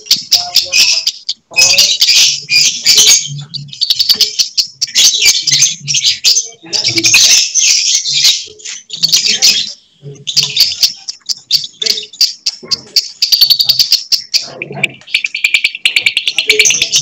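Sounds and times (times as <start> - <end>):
lovebirds singing chattering trills: 0.0 - 17.0.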